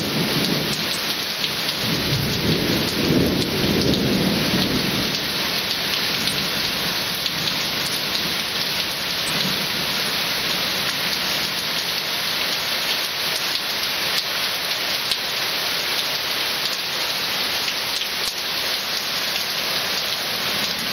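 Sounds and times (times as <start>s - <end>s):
heavy rain falling: 0.0s - 20.9s.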